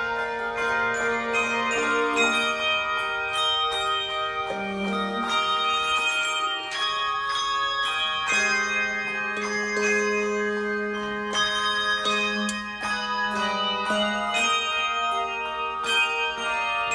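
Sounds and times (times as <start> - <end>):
handbell choir playing chords: 0.0 - 16.9.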